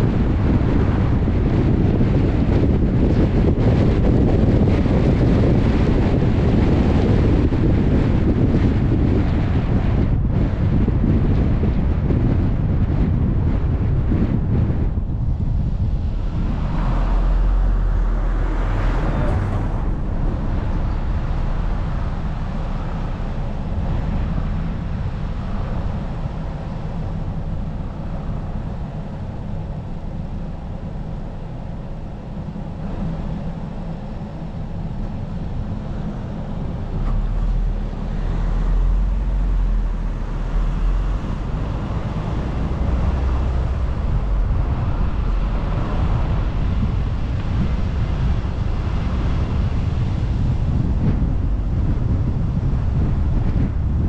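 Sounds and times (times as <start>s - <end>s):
car engine and tyre noise: 0.0s - 54.0s
heavy low rumble: 0.0s - 54.0s.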